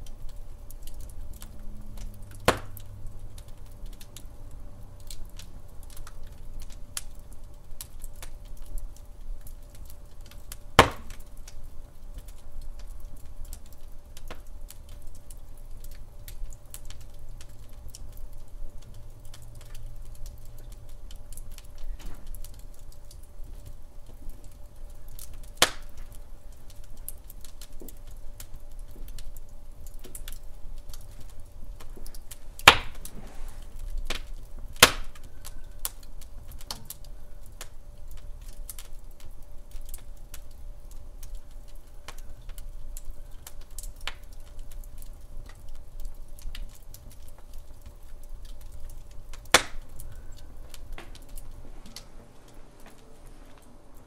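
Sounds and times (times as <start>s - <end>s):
wood fire crackling: 0.0s - 54.0s
loud fire pops: 0.1s - 4.2s, 5.0s - 53.0s.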